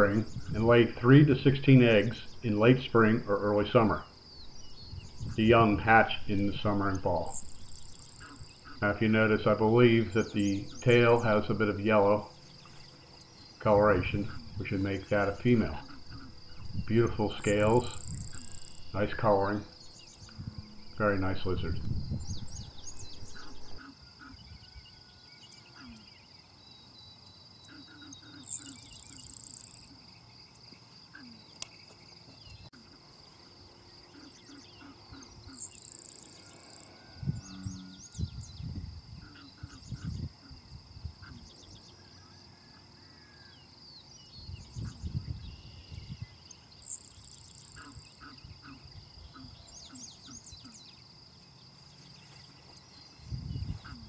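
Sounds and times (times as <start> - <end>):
higher insect buzz: 0.0 - 24.6, 25.5 - 54.0
insects trilling: 0.0 - 54.0.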